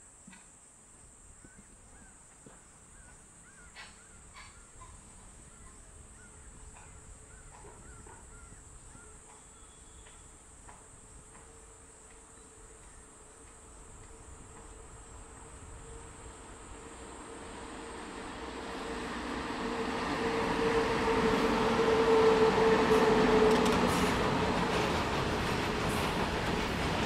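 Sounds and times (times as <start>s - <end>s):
high insect drone: 0.0s - 27.0s
low train hum: 2.5s - 27.0s.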